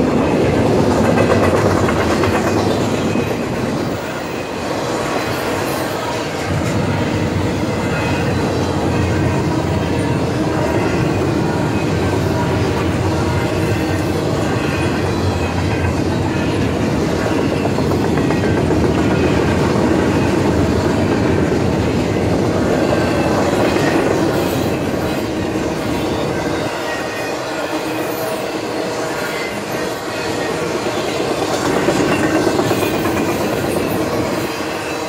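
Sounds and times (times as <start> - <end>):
freight train rumbling past: 0.0 - 35.0
wheels clacking on rails: 0.0 - 35.0.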